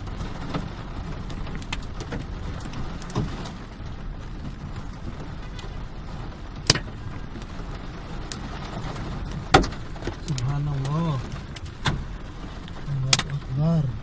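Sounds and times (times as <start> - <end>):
rain and hail hissing: 0.0 - 14.0.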